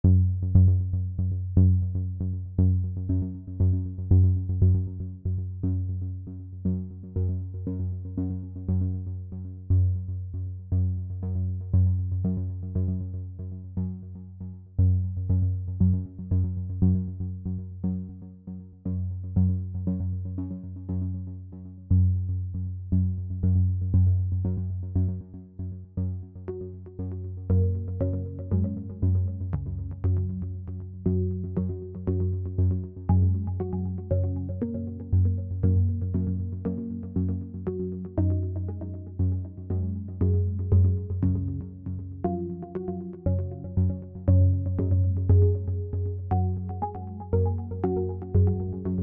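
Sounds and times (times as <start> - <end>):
electronic music with synthesizer: 0.1 - 49.0.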